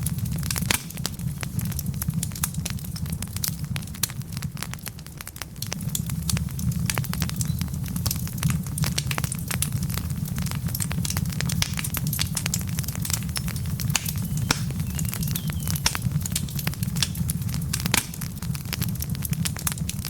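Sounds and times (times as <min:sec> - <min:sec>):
fire crackling and popping: 0:00.0 - 0:20.0
loud snaps of burning logs: 0:00.0 - 0:20.0
low rumble of flames: 0:00.0 - 0:20.0.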